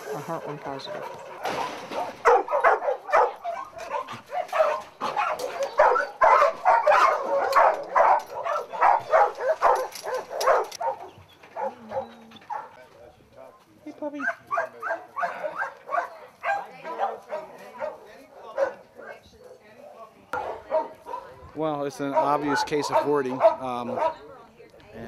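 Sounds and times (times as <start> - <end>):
dogs barking and yapping: 0.0 - 24.5.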